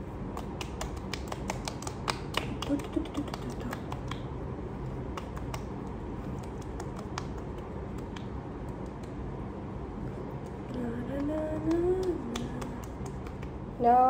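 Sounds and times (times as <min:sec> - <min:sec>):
low room hum: 0:00.0 - 0:14.0
fingertips tapping skin: 0:00.3 - 0:04.3, 0:04.9 - 0:09.2, 0:10.4 - 0:13.6.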